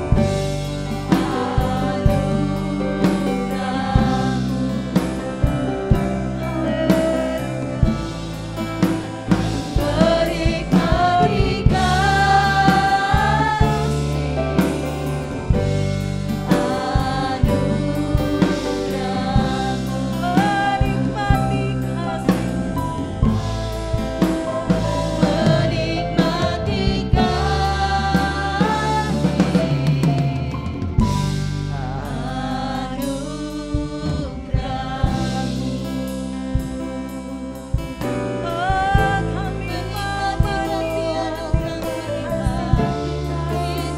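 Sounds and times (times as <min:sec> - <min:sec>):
voices singing: 0:00.0 - 0:37.3, 0:38.4 - 0:43.9
drum kit and band: 0:00.0 - 0:43.9.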